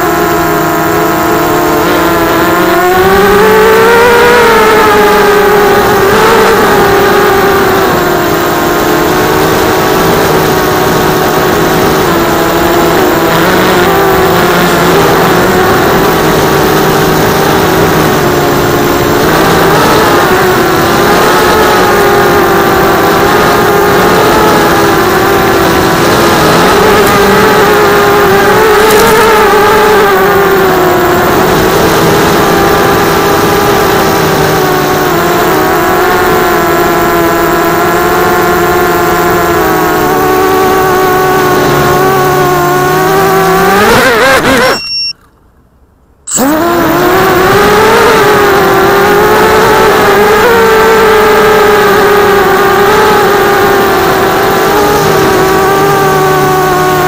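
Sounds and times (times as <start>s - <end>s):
quadcopter motors whining: 0.0s - 45.4s, 46.2s - 57.0s.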